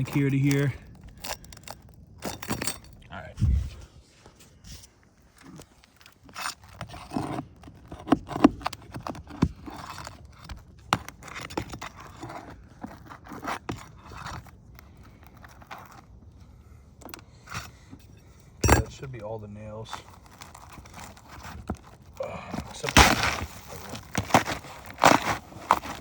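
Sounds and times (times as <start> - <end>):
flat bar scraping under shingles: 0.0 - 26.0.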